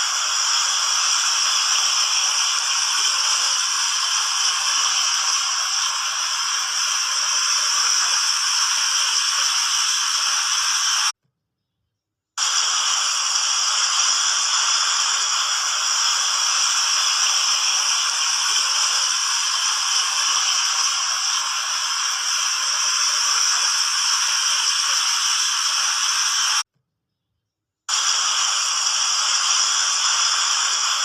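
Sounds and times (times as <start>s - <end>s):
fountain jets splashing: 0.0s - 11.1s, 12.4s - 26.6s, 27.9s - 31.0s.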